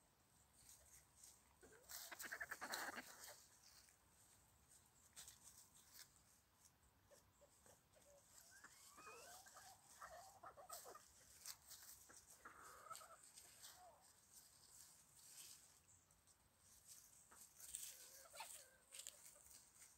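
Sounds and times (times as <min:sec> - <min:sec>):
scratching in dry leaves: 0:00.6 - 0:16.0, 0:16.6 - 0:19.9
chickens clucking: 0:00.6 - 0:19.9.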